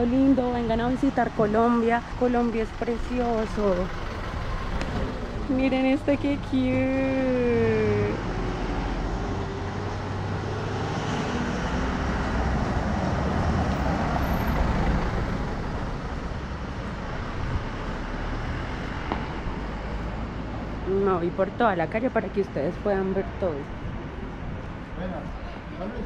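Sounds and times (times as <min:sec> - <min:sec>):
steady low traffic rumble: 0:00.0 - 0:26.0
motor vehicle passing: 0:00.6 - 0:26.0.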